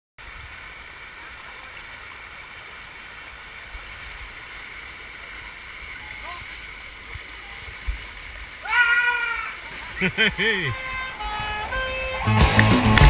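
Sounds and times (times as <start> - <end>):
stream rushing over rock: 0.2 - 13.0.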